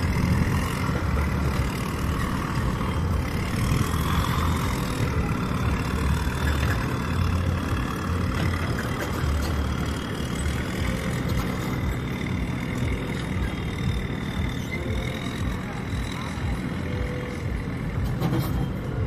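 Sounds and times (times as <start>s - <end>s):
diesel boat engine rumbling: 0.0s - 19.0s.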